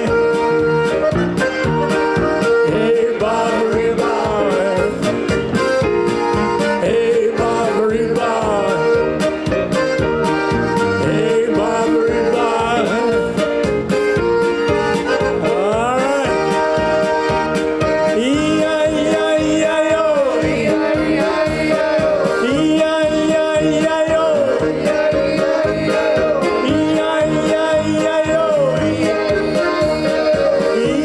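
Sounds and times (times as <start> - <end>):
accordion: 0.0 - 31.0
keyboards: 0.0 - 31.0
oom-pah beat: 0.0 - 31.0.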